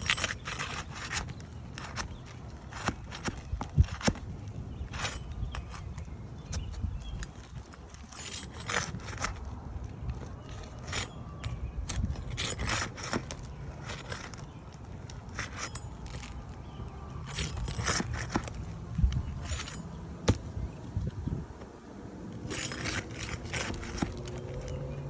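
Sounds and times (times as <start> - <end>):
bar scraping roof shingles: 0.0 - 20.5, 22.3 - 25.0.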